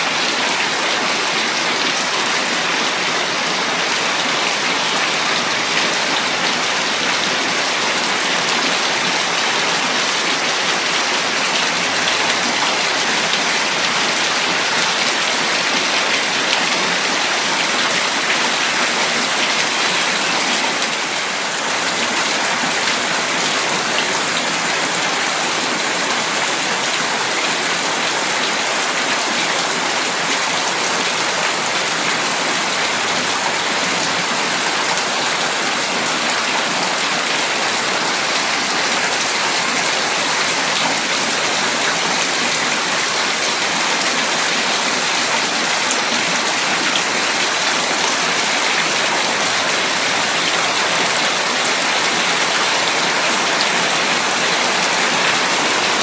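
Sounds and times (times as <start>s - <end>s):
heavy rain falling: 0.0s - 56.0s
water streaming off a roof: 0.0s - 56.0s.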